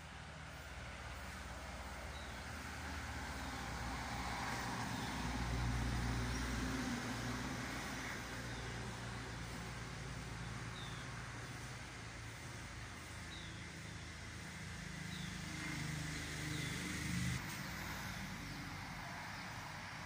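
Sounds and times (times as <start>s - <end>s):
road vehicle passing: 0.0s - 20.0s.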